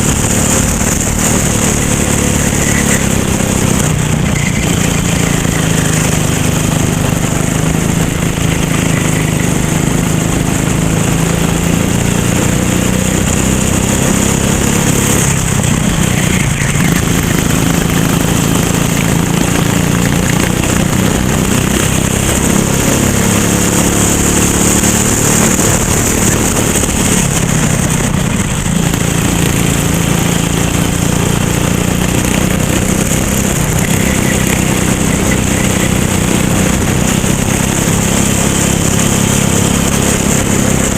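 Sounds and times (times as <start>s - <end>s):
racing kart engine: 0.0s - 40.9s.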